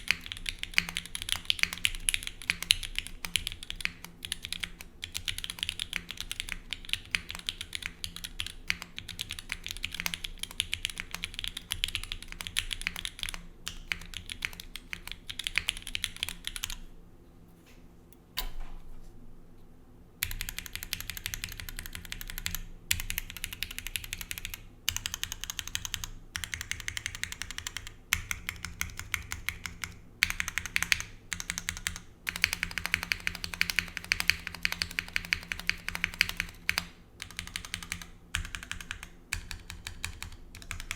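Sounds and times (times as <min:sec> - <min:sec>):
mechanical keyboard typing: 0:00.0 - 0:16.8, 0:20.2 - 0:40.9.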